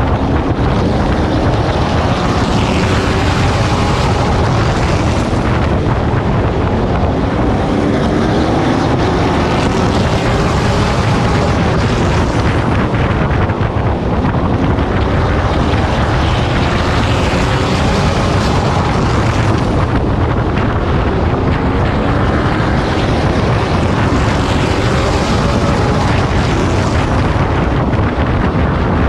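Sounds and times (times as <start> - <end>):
truck engine running hard: 0.0 - 29.0
wind buffeting microphone: 0.0 - 29.0.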